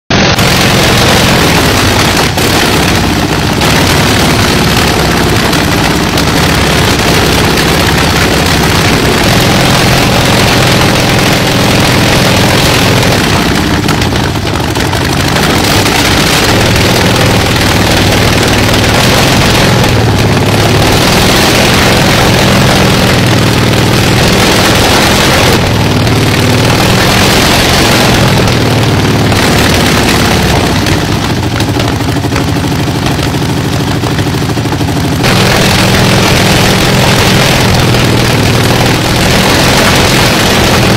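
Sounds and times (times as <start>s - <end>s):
radial aircraft engine running: 0.1s - 40.9s.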